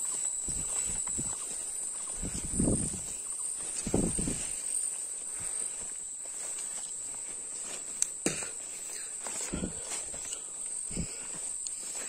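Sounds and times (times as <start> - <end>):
footsteps through undergrowth: 0.0 - 12.0
high-pitched insect drone: 0.0 - 12.0.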